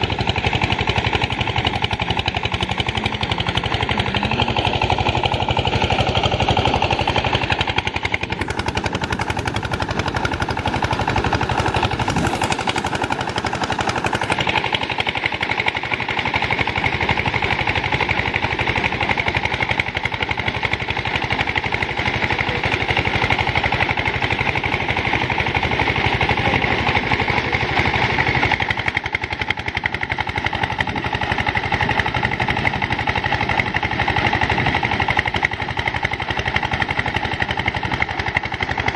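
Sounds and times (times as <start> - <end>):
threshing machine engine pulsing: 0.0 - 38.9.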